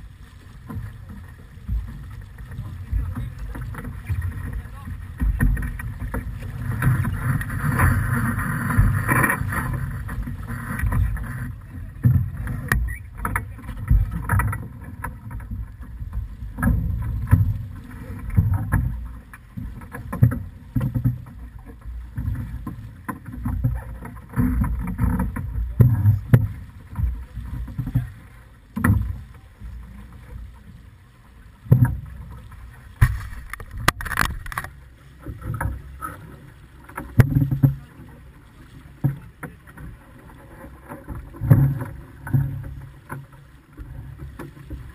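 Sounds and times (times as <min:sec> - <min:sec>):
boat knocks and slaps: 0:00.0 - 0:44.9
water rushing along hull: 0:00.0 - 0:44.9.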